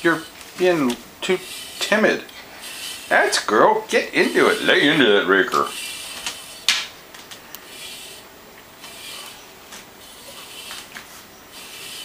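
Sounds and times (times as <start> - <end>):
metal rake scraping cat fur: 0.0 - 6.9, 7.6 - 12.0.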